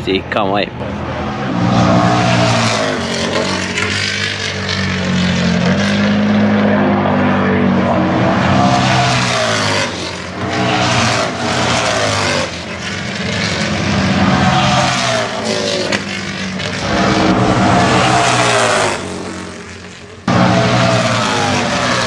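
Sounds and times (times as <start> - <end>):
motorcycle engines passing: 0.6 - 22.0.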